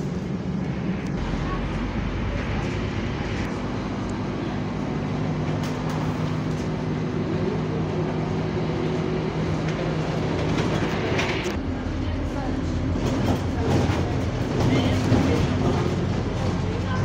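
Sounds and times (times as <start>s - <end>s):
bus engine and cooling fan drone: 0.0s - 17.0s.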